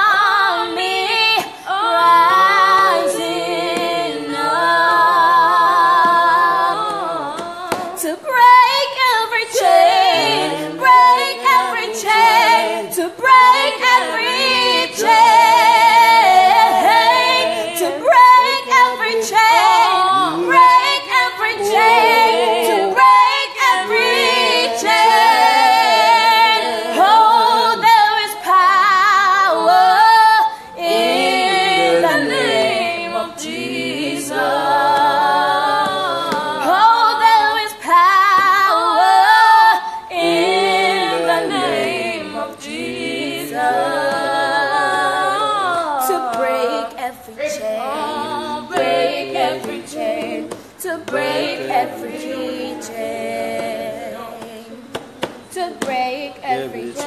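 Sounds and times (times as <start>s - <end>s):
group singing unaccompanied: 0.0s - 57.0s.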